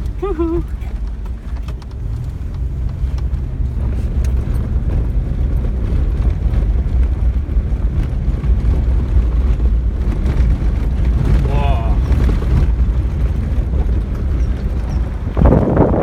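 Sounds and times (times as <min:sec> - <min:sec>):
light knocks and rattles: 0:00.0 - 0:15.6
truck engine and tyres rumbling: 0:00.0 - 0:16.0.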